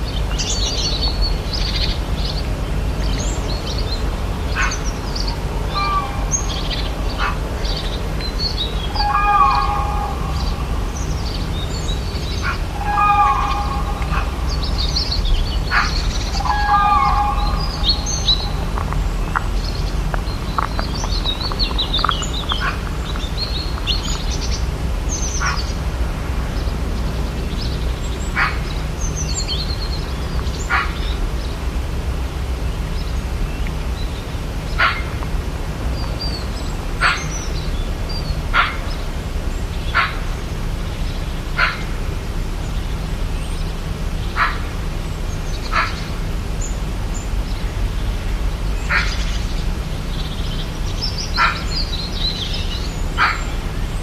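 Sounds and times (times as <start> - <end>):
birds twittering: 0.0 - 54.0
steady low rumble: 0.0 - 54.0.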